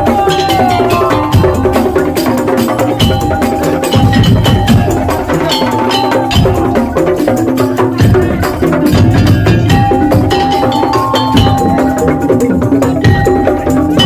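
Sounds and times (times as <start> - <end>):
deep drum beats: 0.0 - 14.0
held melodic tones: 0.0 - 14.0
wooden percussion strikes: 0.0 - 14.0.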